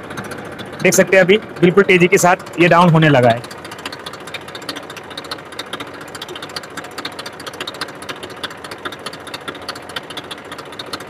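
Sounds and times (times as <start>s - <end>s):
diesel tractor engine idling: 0.0s - 11.0s.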